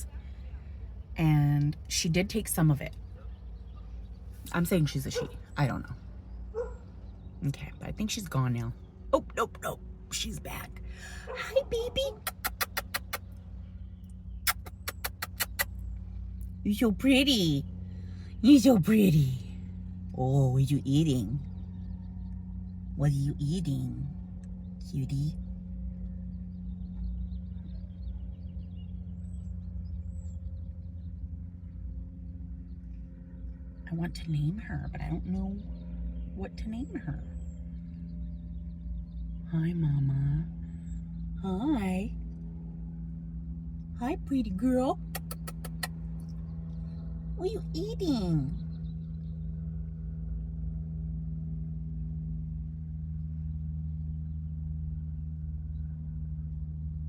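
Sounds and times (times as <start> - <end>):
small birds chirping: 0.0 - 50.5
car idling heard from inside: 0.0 - 57.0
steady low hum: 0.0 - 57.0.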